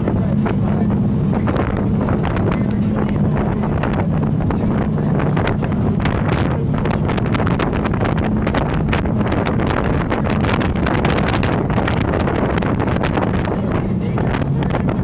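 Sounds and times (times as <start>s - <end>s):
low engine drone: 0.0s - 15.0s
wind buffeting microphone: 0.0s - 15.0s.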